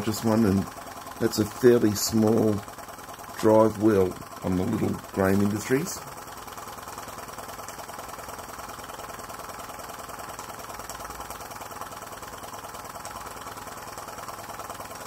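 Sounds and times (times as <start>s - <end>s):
belt-driven fan: 0.0s - 15.0s
steam engine running: 0.0s - 15.0s.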